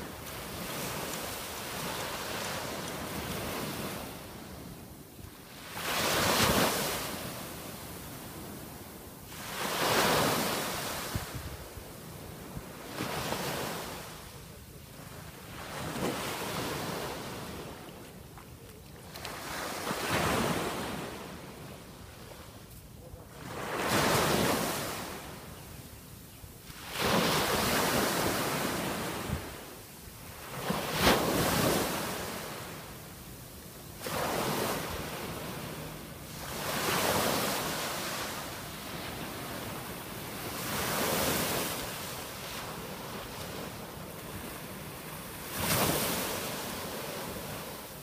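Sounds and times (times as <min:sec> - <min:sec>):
small waves washing up a beach: 0:00.0 - 0:18.2, 0:19.0 - 0:26.0, 0:26.6 - 0:48.0.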